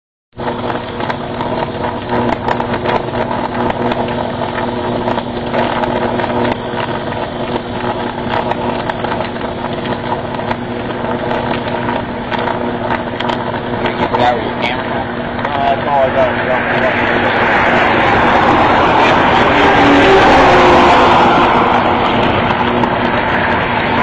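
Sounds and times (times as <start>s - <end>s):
electrical arcing buzz: 0.4s - 24.0s
electrical crackling: 0.4s - 24.0s.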